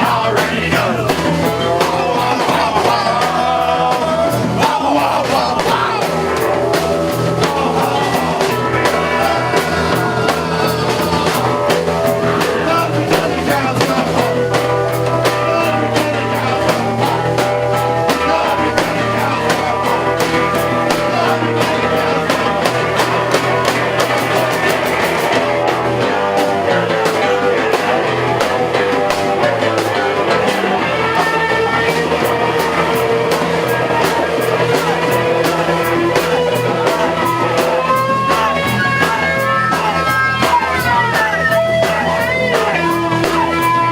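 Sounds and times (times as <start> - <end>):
bass guitar: 0.0 - 43.9
drum kit: 0.0 - 43.9
electric guitar: 0.0 - 43.9
person singing: 0.0 - 43.9.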